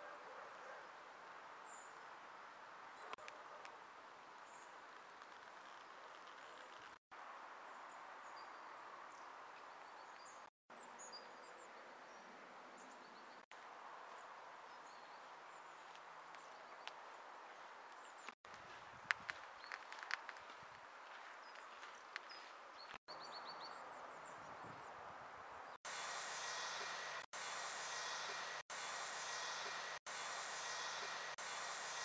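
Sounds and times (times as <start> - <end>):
faint outdoor background noise: 0.0 - 32.0.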